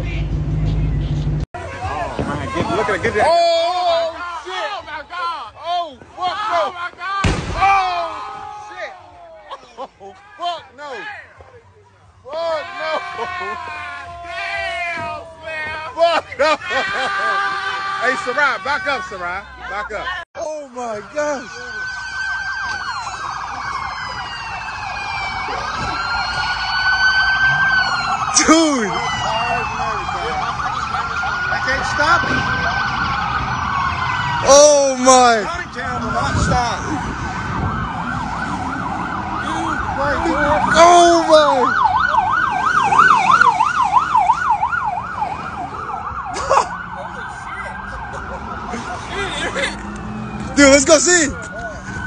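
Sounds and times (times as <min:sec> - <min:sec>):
police sirens wailing and yelping: 0:00.9 - 0:52.0.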